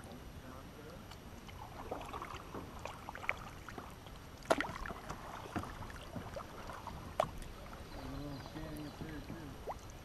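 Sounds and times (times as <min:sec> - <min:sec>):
paddle splashing in water: 0:01.0 - 0:10.0.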